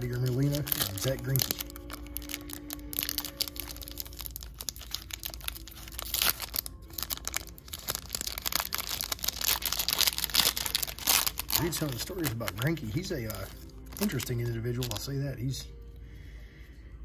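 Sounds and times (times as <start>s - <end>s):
foil wrapper crinkling: 0.0s - 15.3s.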